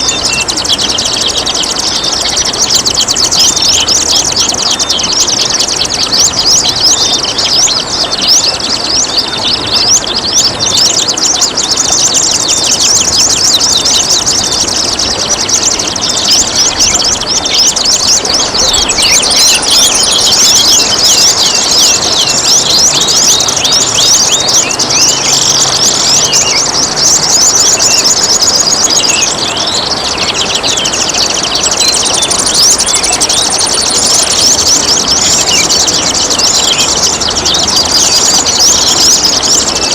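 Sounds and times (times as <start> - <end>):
songbirds chirping and singing: 0.0 - 39.9
trickling water: 0.0 - 39.9.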